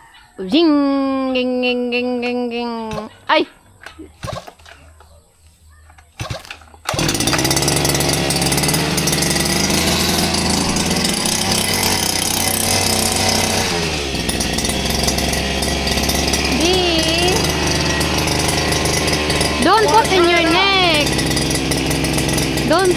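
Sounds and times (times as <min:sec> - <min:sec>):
small petrol engine running: 0:03.8 - 0:05.1, 0:05.7 - 0:22.9.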